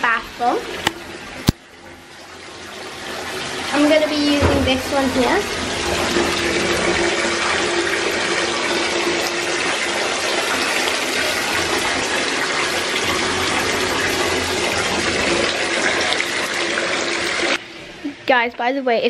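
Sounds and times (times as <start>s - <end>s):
tap water filling bathtub: 0.0s - 18.2s.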